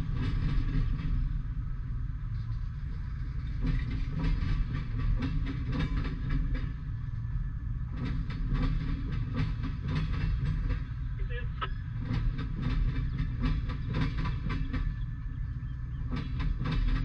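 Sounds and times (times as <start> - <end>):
freight train rumbling: 0.0 - 17.0
wheels clacking over rail joints: 0.0 - 17.0.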